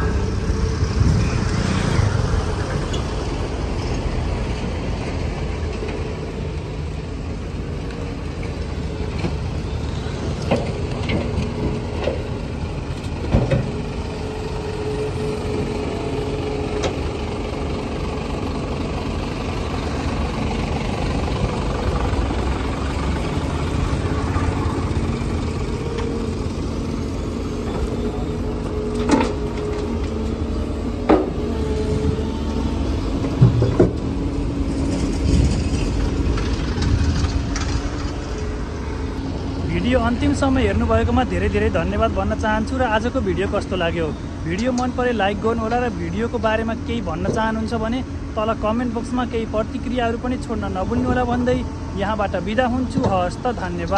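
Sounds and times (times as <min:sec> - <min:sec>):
heavy vehicle engines running: 0:00.0 - 0:53.9.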